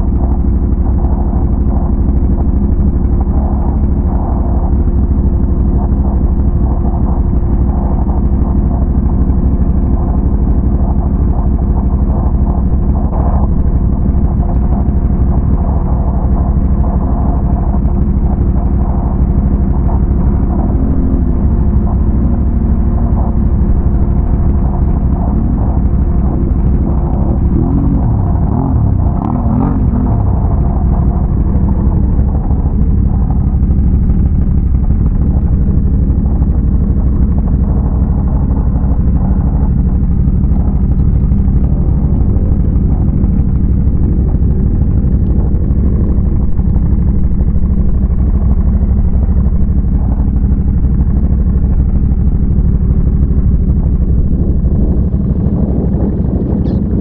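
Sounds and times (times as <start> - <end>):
atv engine droning: 0.0 - 57.0.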